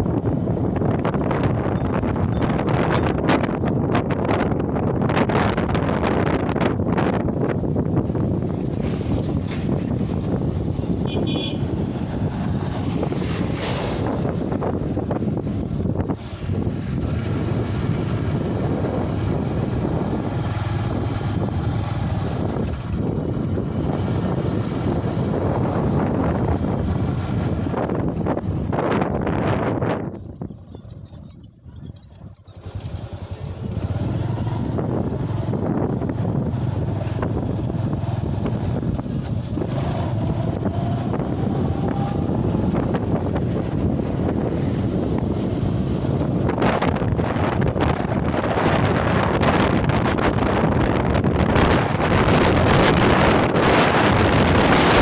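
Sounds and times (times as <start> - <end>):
vehicle rumble: 0.0 - 55.0
wind on microphone: 0.0 - 55.0.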